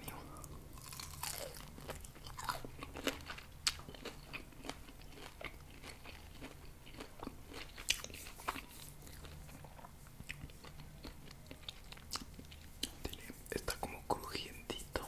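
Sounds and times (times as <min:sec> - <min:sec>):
biting and chewing meat: 0:00.4 - 0:12.9.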